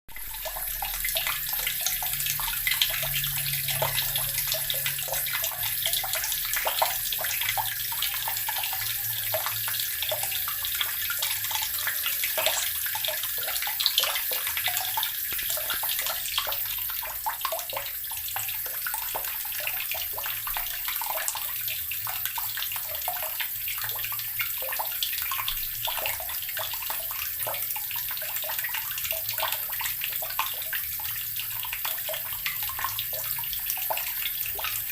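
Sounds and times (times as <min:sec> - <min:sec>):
tap water running and splashing: 0:00.1 - 0:34.9.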